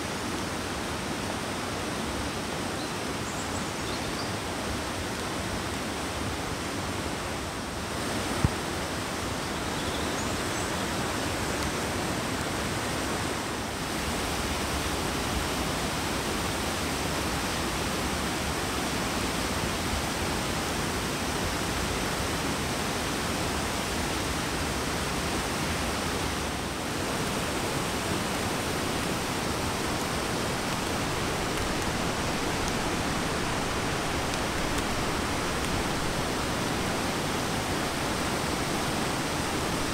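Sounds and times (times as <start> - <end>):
water rushing over boulders: 4.4 - 9.4, 10.9 - 39.9.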